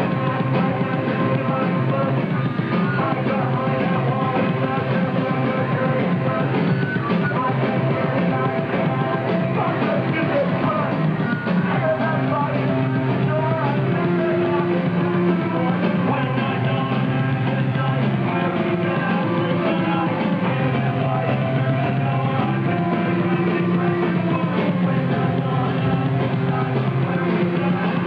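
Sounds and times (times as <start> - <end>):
punk rock music with singing: 0.0 - 28.0.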